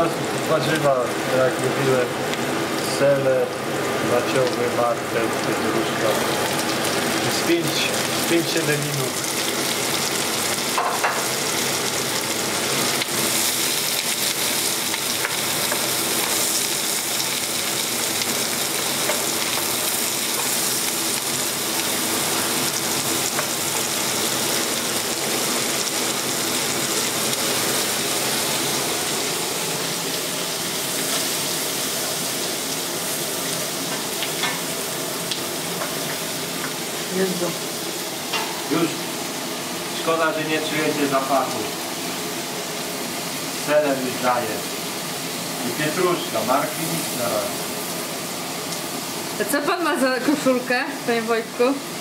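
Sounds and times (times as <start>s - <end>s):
vegetables sizzling in fat: 0.0s - 52.0s.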